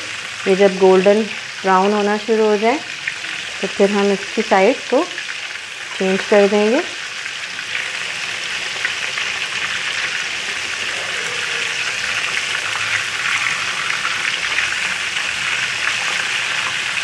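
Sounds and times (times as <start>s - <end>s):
deep-frying sizzle with crackles: 0.0s - 17.0s.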